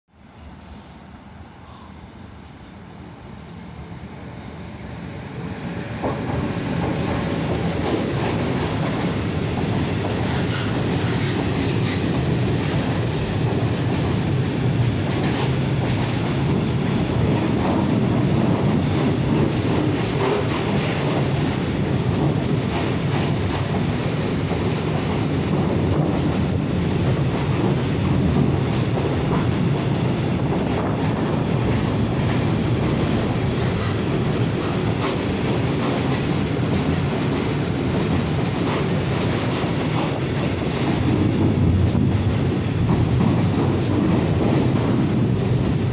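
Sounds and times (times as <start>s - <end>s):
electric locomotive passing: 0.2s - 45.9s
wheels rumbling on rail: 4.1s - 45.9s.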